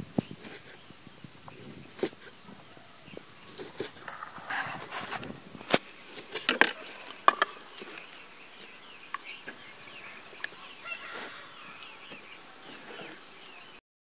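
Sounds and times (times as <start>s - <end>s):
bird chirps: 0.2s - 13.8s.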